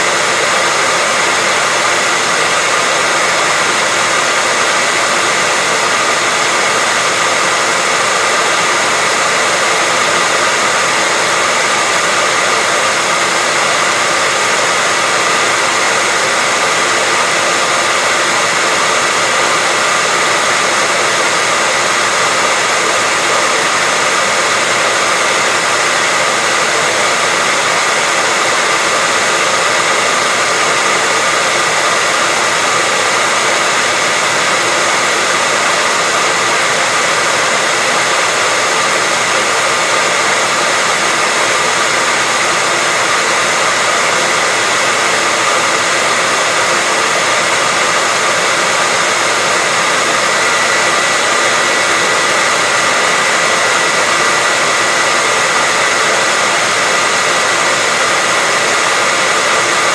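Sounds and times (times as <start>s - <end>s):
hairdryer running: 0.0s - 59.9s.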